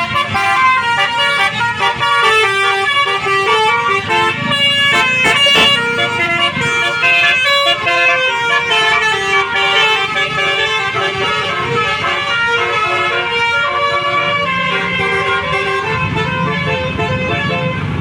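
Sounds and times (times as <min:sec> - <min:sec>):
multi-tone bus horn playing a tune: 0:00.0 - 0:18.0.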